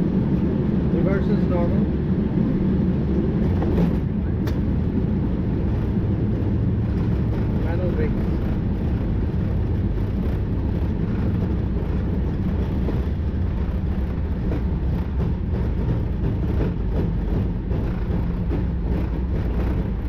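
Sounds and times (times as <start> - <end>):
low rumble in airliner cockpit: 0.0 - 20.0.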